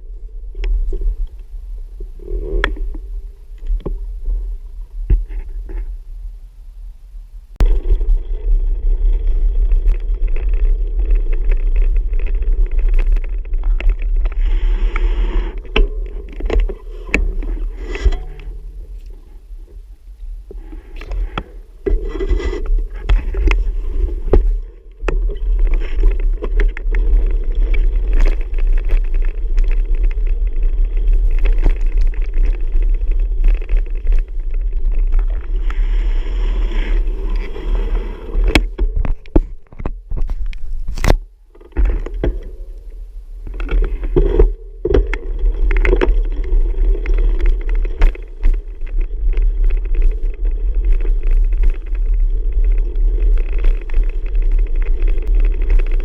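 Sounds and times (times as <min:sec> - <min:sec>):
bicycle riding rumble: 0:00.0 - 0:56.0.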